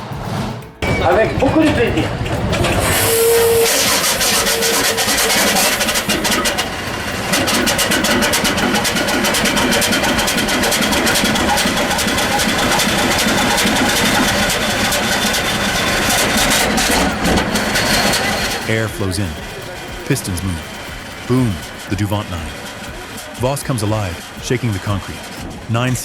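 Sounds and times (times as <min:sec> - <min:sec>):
diesel engine knocking steadily: 0:00.0 - 0:26.0.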